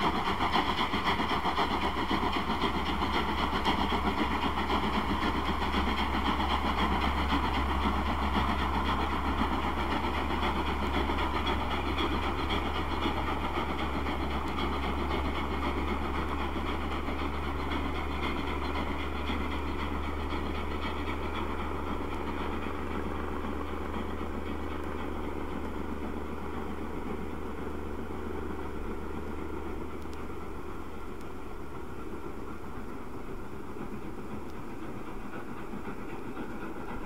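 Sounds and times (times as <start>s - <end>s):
steady low drone: 0.0s - 37.0s
steam locomotive hauling train: 0.0s - 37.0s.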